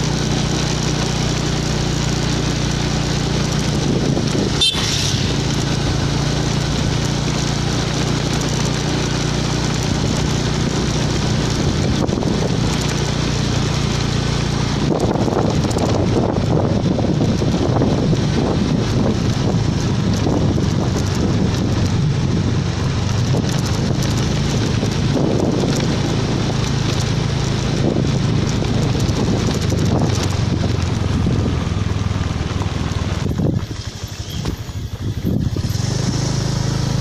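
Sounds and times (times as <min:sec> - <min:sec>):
vehicle engine running: 0:00.0 - 0:37.0
wind rushing over microphone: 0:00.0 - 0:37.0.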